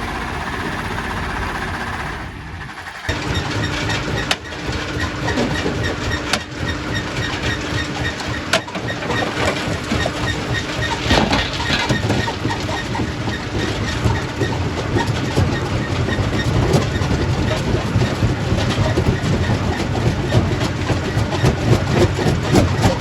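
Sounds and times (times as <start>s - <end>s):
rock crusher rumbling: 3.1s - 23.0s.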